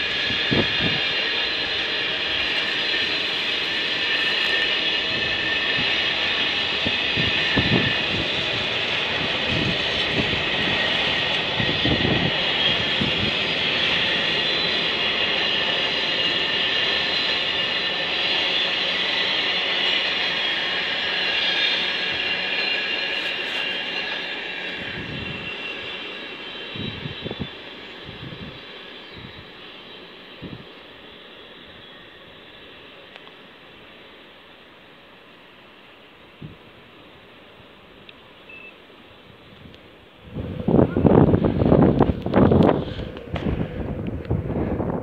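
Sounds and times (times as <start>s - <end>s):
high-pitched whine: 0.0s - 37.3s.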